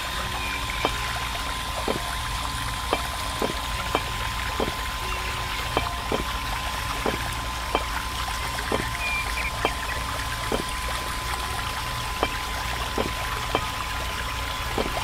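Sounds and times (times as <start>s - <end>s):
electric water pump running: 0.0s - 15.0s.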